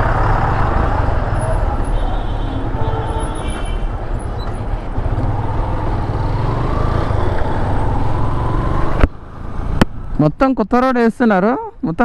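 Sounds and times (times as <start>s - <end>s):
heavy wind and road noise: 0.0s - 12.0s.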